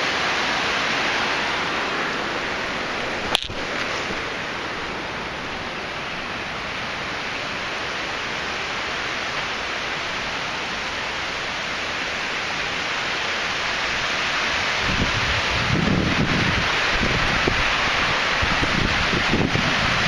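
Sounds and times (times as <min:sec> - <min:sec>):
small waterfall rushing: 0:00.0 - 0:20.0.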